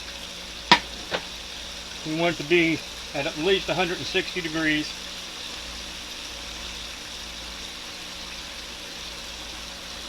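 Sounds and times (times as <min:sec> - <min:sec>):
chicken frying in hot oil: 0:00.0 - 0:10.0
faint steady hum: 0:00.0 - 0:10.0.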